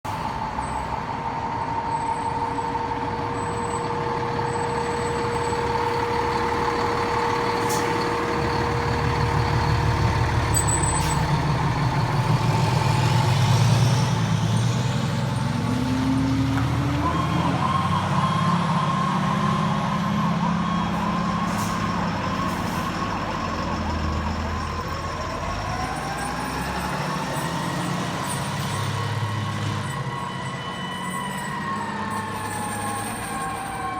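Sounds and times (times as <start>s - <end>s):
diesel truck engines rumbling: 0.0s - 33.9s.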